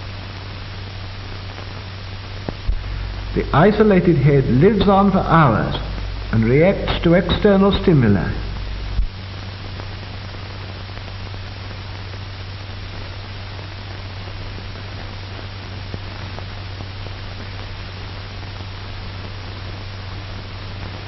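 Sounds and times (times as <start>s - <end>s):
film soundtrack hiss and hum: 0.0s - 21.0s.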